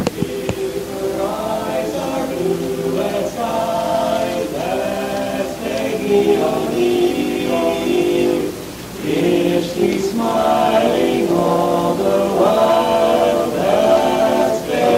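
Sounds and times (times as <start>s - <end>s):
male quartet singing a cappella: 0.0s - 14.9s.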